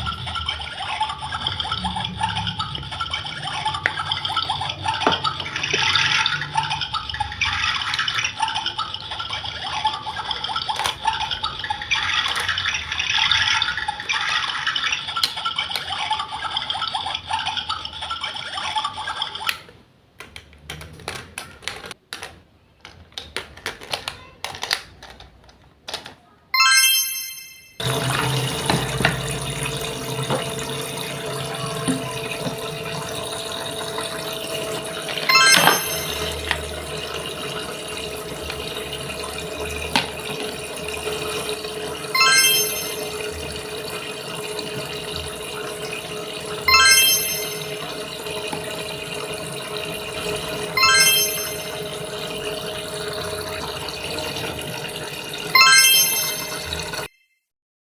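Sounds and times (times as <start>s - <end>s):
tap water running into sink: 0.0s - 19.2s, 27.8s - 57.1s.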